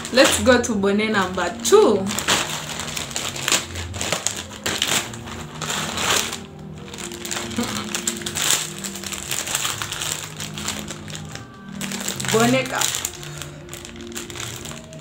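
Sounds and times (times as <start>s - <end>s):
background music: 0.0s - 15.0s
plastic packaging crinkling: 0.0s - 15.0s.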